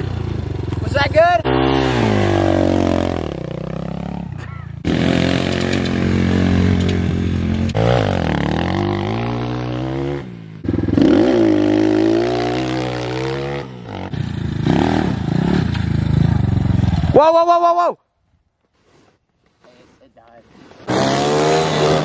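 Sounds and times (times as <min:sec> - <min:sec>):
dirt bike engine revving: 0:00.0 - 0:17.3, 0:20.8 - 0:22.0.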